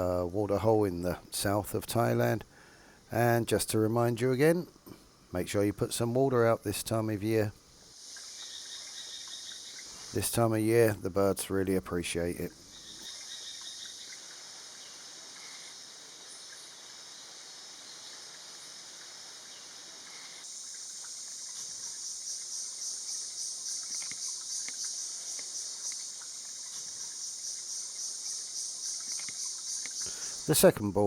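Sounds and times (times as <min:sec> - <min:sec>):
insects droning high-pitched: 0:00.0 - 0:31.0.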